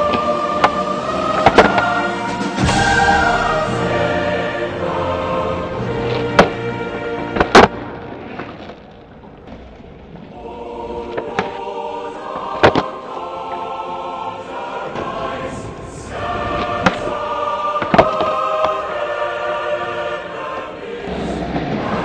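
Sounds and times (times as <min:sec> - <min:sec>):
choir singing held chords: 0:00.0 - 0:08.4, 0:10.3 - 0:22.0.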